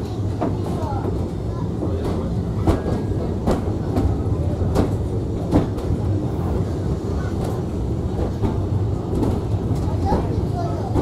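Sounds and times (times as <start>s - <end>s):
tram running gear rumble: 0.0s - 11.0s.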